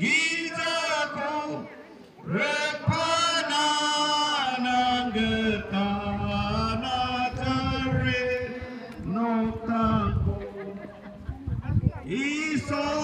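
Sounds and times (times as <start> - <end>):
group of voices singing: 0.0 - 11.4, 12.0 - 13.0.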